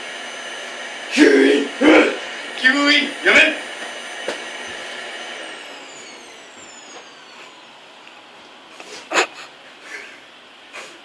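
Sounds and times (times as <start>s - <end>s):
vacuum cleaner motor winding down: 0.0s - 10.9s.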